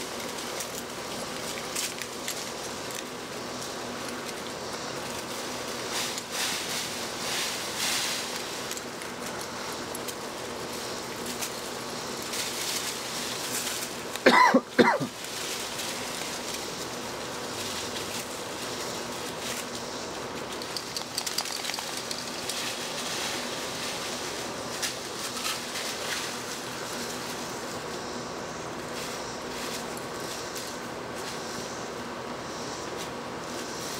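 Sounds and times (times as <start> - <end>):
rustling leaves: 0.0 - 33.9.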